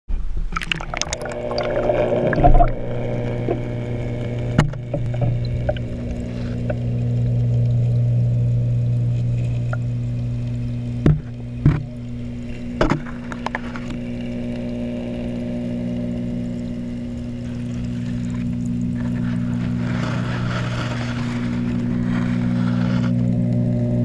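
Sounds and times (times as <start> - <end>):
underwater low hum: 0.1 - 24.0
water splashing and bubbling: 0.4 - 23.9.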